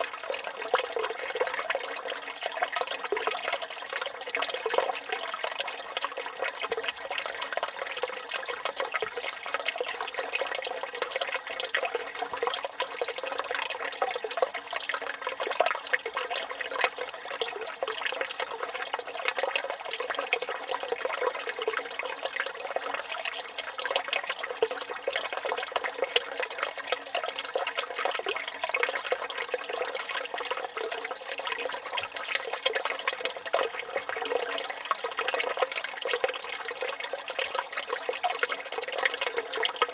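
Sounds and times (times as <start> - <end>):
fountain water splashing into basin: 0.0 - 39.9.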